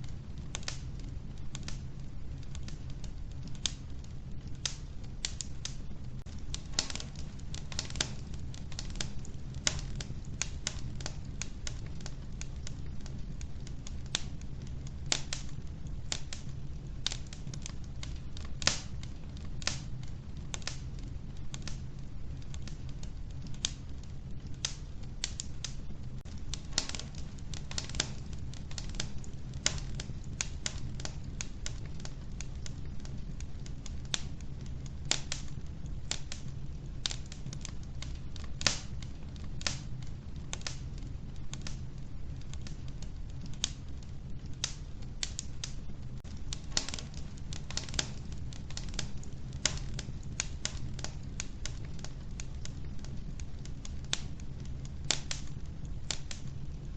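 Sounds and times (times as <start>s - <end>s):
logs crackling and popping: 0.0s - 56.9s
low rumble of flames: 0.0s - 56.9s.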